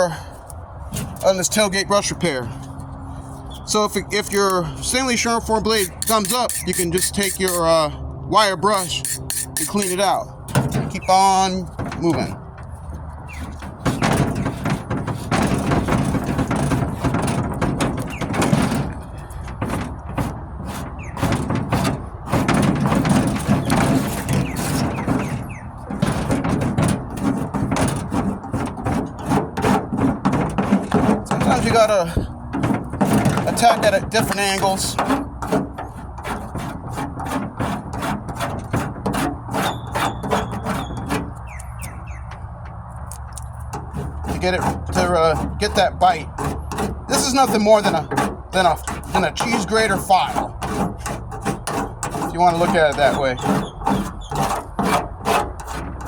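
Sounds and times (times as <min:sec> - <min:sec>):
rasp scraping body filler: 0:00.0 - 0:56.0.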